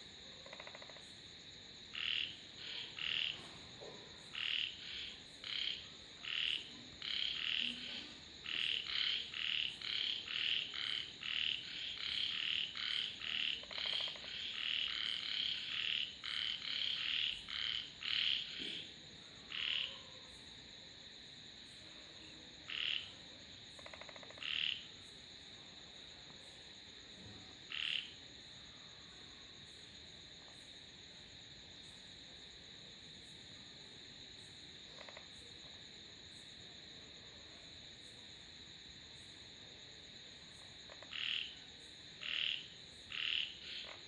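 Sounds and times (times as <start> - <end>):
frogs croaking: 0.0 - 20.8, 21.5 - 44.0.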